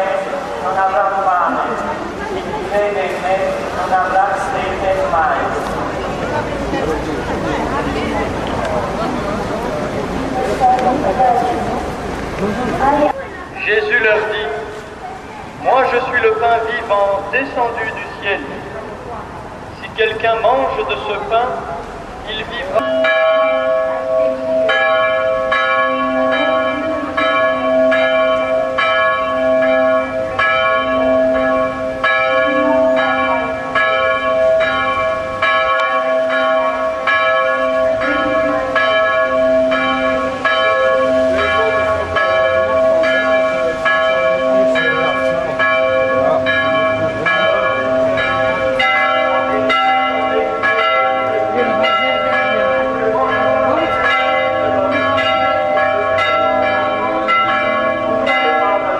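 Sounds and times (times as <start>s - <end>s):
church bells ringing: 0.0s - 18.8s, 19.9s - 58.9s.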